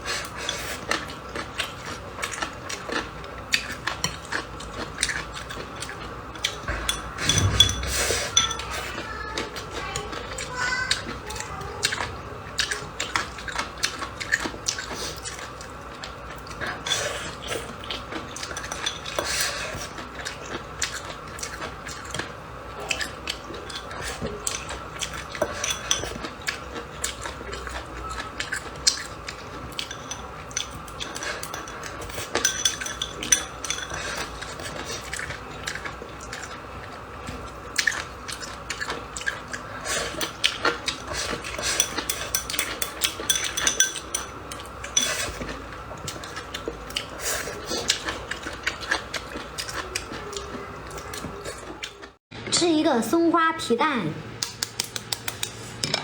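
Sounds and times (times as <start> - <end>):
chewing and biting: 0.1 - 7.6, 8.6 - 52.2
utensils clinking against dishes: 0.1 - 52.1, 54.6 - 56.0.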